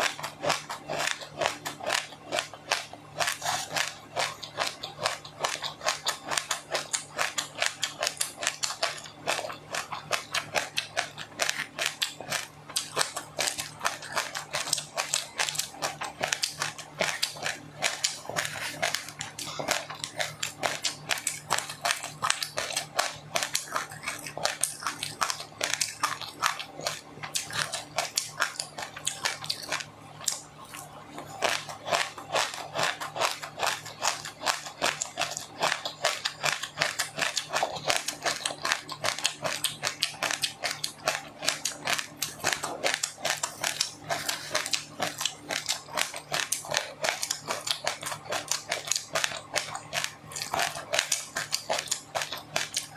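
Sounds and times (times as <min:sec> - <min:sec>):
chewing crunchy food: 0:00.0 - 0:52.9
faint low hum: 0:00.0 - 0:52.9.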